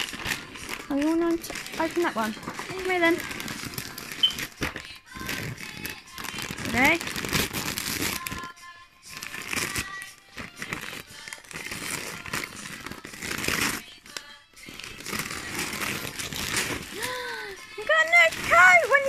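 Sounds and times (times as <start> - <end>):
wrapping paper crinkling: 0.0 - 19.0.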